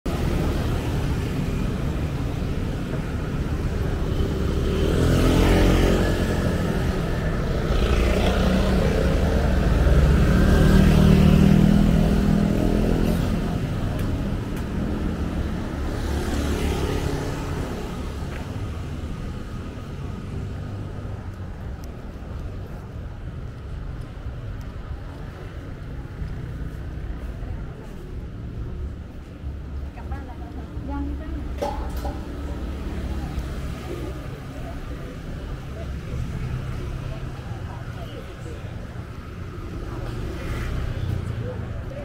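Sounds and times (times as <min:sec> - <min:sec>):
low traffic rumble: 0:00.0 - 0:42.0
cars passing: 0:00.1 - 0:42.0.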